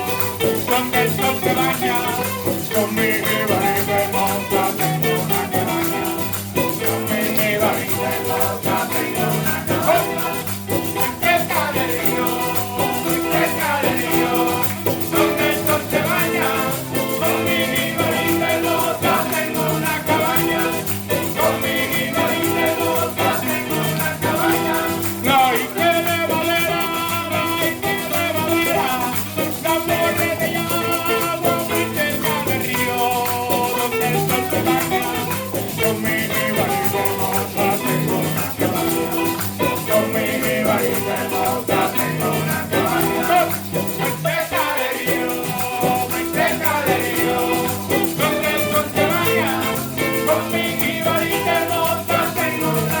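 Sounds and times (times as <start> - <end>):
latin band music with singing: 0.0 - 53.0.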